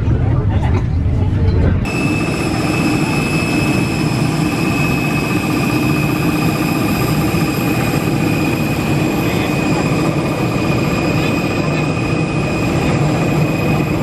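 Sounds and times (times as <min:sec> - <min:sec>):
high turbine whine: 0:01.0 - 0:14.0
jet turbine running: 0:01.8 - 0:14.0.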